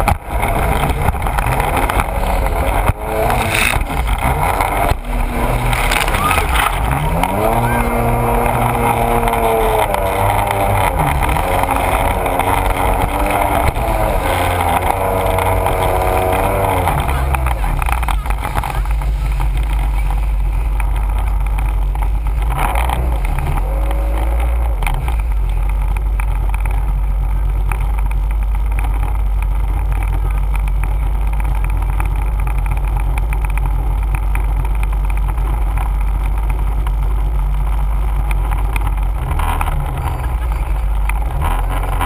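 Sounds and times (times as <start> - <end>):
watercraft engine rumble: 0.0 - 42.0.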